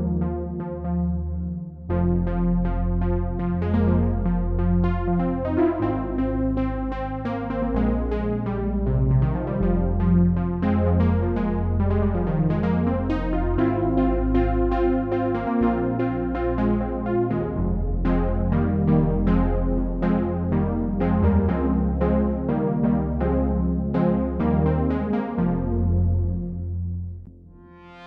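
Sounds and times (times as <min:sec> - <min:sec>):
held synth bass notes: 0:00.0 - 0:28.0
synthesizer plucked notes: 0:00.0 - 0:28.0.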